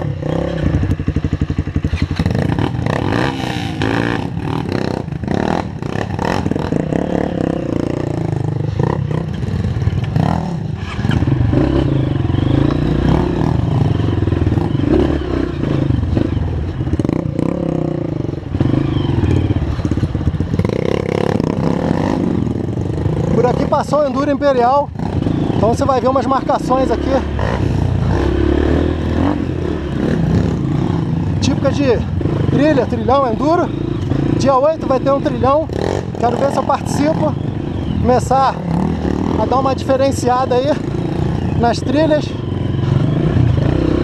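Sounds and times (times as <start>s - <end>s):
trail bike engine at low revs: 0.0s - 44.0s.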